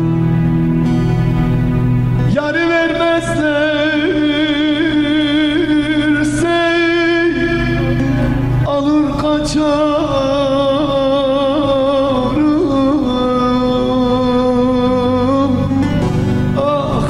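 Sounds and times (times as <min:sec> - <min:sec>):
instrumental backing music: 0:00.0 - 0:17.0
man singing into a microphone: 0:02.3 - 0:17.0.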